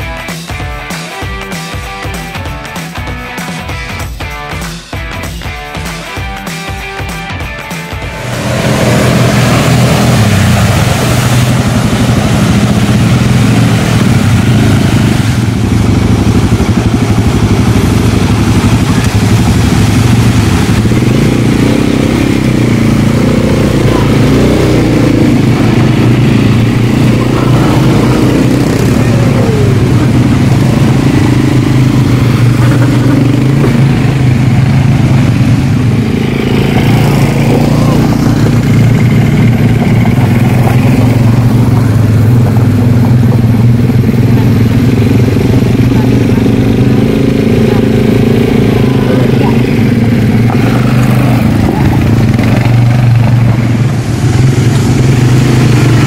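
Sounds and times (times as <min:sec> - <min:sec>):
atv engine drone: 0:00.0 - 0:56.0.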